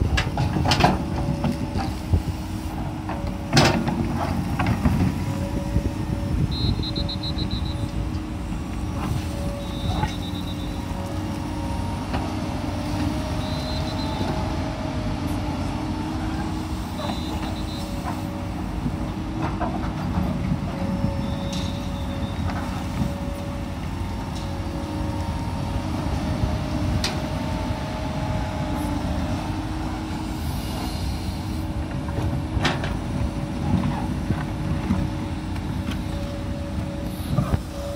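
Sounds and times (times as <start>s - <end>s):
excavator engine under load: 0.0s - 37.9s.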